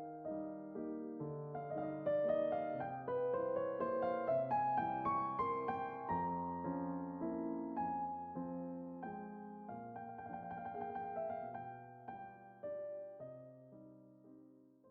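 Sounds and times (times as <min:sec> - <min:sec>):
gentle piano music: 0:00.0 - 0:14.9.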